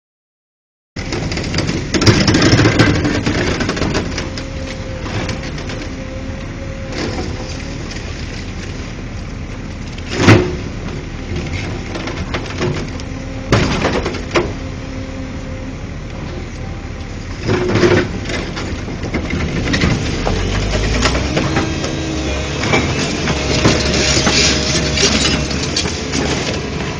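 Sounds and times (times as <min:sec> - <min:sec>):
debris crashing: 0:01.0 - 0:06.0, 0:06.6 - 0:14.6, 0:17.4 - 0:26.9
excavator running: 0:01.0 - 0:26.9.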